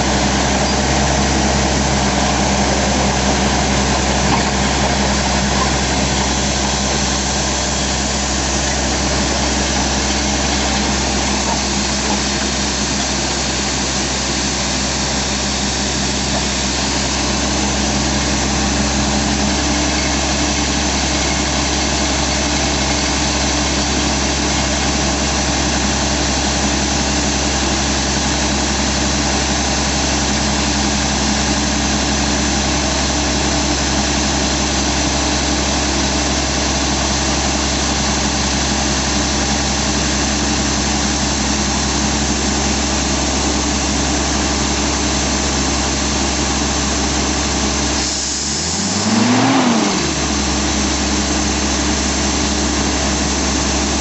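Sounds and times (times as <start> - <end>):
rock drill rig running: 0.0 - 54.0.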